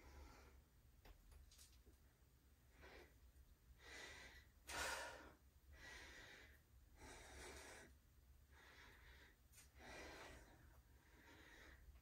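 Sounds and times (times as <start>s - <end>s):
person breathing: 0.0s - 0.7s, 2.7s - 12.0s.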